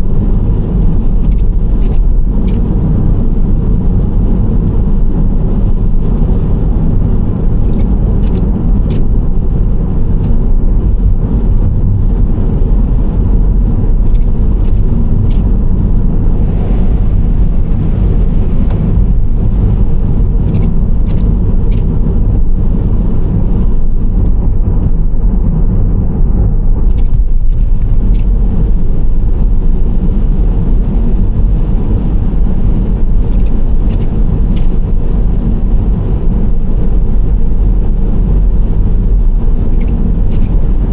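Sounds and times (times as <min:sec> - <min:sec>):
minivan road and engine noise: 0:00.0 - 0:40.9.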